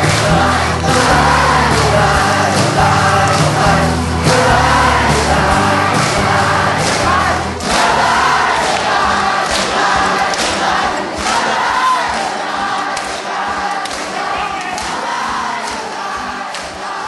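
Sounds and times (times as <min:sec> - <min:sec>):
song with steady beat and vocals: 0:00.0 - 0:17.0.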